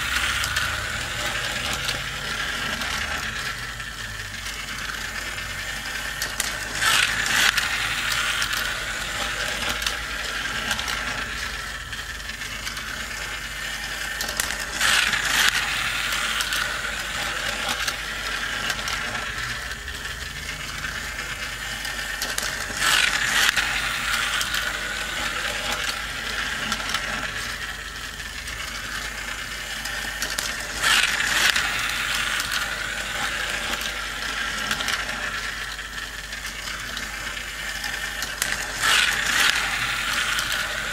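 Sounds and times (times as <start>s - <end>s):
toy cars rattling: 0.0s - 40.9s
toy race track gears whirring: 0.0s - 40.9s.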